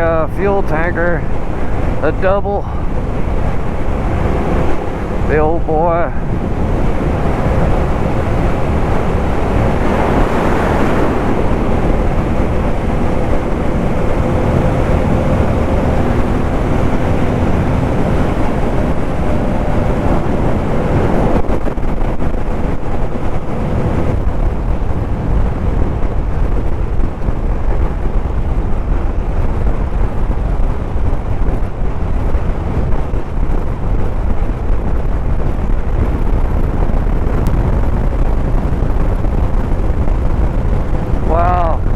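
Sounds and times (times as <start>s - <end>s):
wind rush on microphone: 0.0s - 41.9s.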